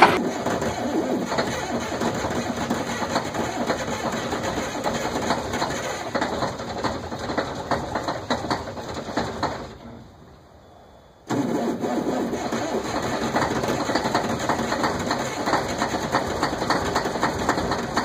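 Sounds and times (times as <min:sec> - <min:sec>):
diesel engine running roughly: 0:00.0 - 0:09.8, 0:11.3 - 0:18.0.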